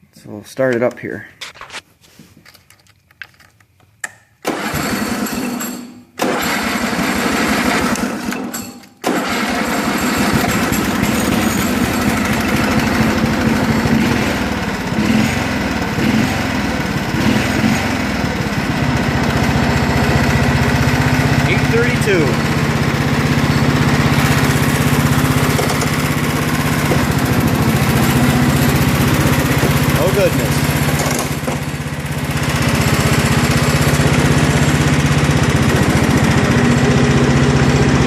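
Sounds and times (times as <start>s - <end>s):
lawn tractor engine starting: 4.0s - 38.0s.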